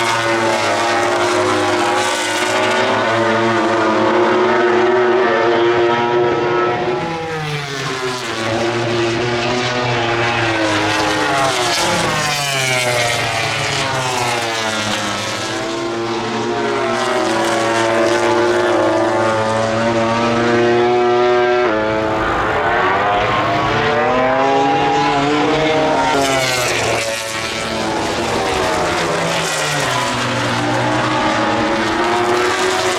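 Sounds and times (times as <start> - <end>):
race motorcycles revving past: 0.0 - 32.9.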